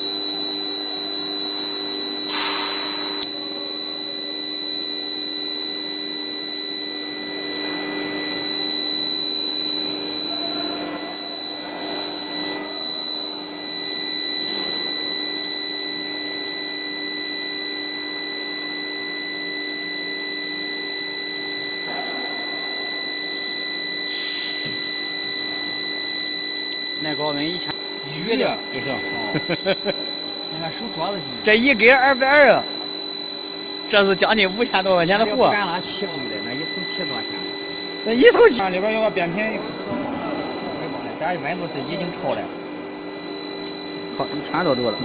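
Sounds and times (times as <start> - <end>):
induction furnace whining: 0.0 - 45.0.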